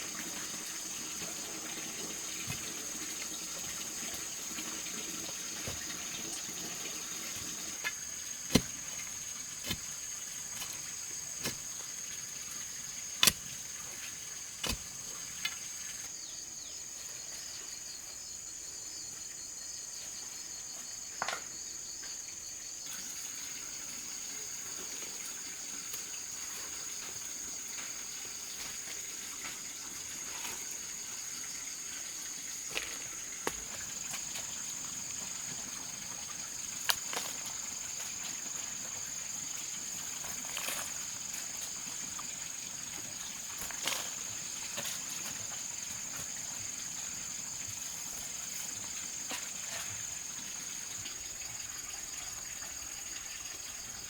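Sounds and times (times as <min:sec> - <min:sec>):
faint water-like hiss: 0:00.0 - 0:21.0, 0:21.6 - 0:54.0.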